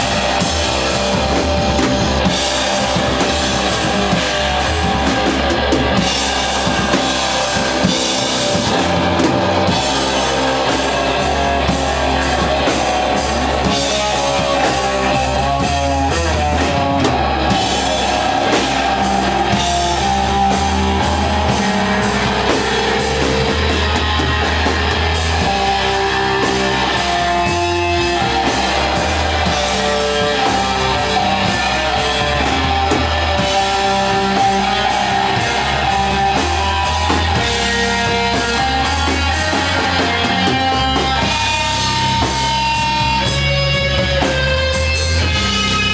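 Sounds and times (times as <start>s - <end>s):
drums and cymbals: 0.0s - 45.9s
fuzzed electric guitar: 0.0s - 45.9s.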